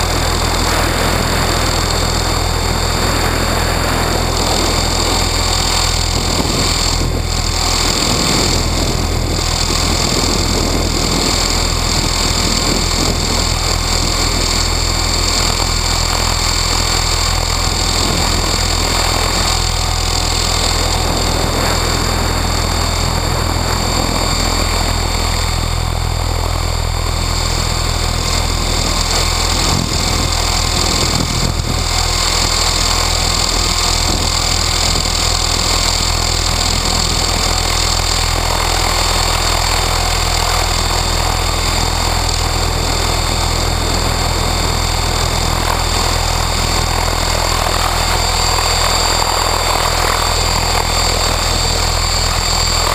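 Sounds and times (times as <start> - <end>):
electric motor whine: 0.0 - 52.9
helicopter rotor hum: 0.0 - 52.9
wind on microphone: 0.0 - 52.9.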